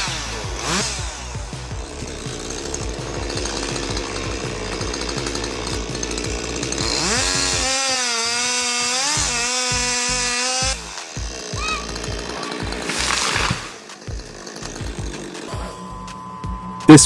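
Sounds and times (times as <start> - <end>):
engine revving high: 0.0 - 16.0
background music: 0.0 - 17.0
machinery working: 0.0 - 17.0.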